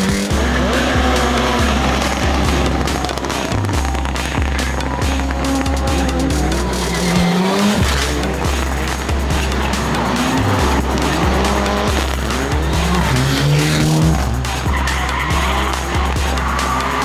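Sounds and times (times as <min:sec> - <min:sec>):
dance music with thumping bass: 0:00.0 - 0:17.0
rally car engine revving: 0:00.0 - 0:17.0
tyres squealing: 0:00.0 - 0:17.0.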